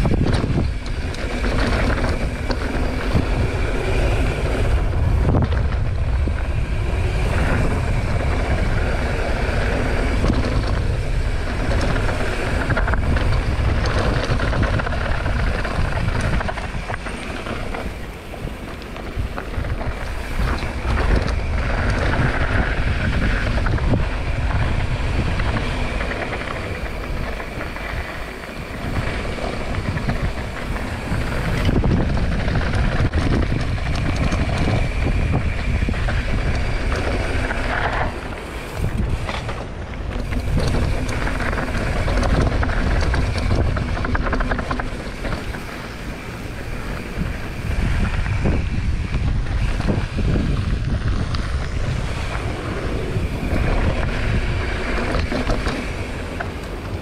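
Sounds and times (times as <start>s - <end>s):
bike tyres rattling over dirt: 0.0s - 57.0s
wind buffeting microphone: 0.0s - 57.0s.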